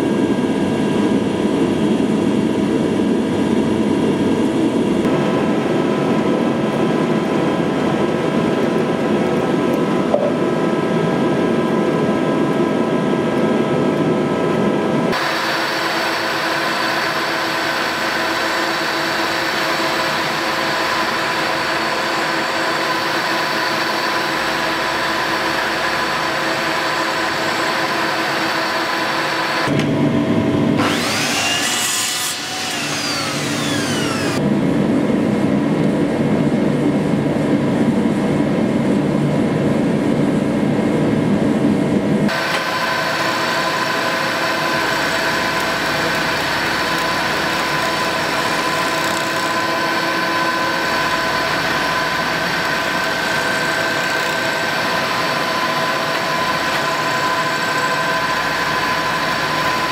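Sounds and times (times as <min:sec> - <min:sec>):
milling machine whine: 0:00.0 - 0:59.9.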